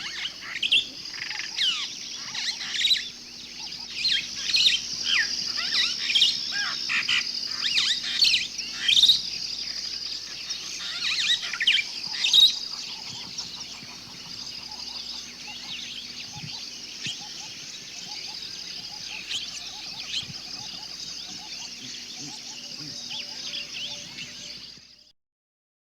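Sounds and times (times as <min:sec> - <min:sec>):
high insect drone: 0:00.0 - 0:25.1.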